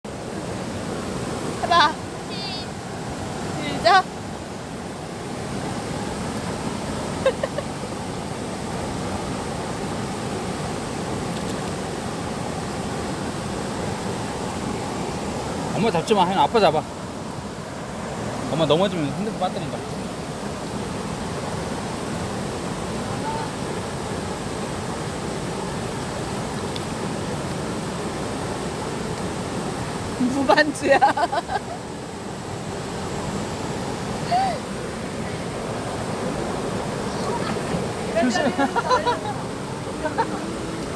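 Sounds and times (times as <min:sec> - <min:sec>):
stream water rushing: 0:00.1 - 0:40.9.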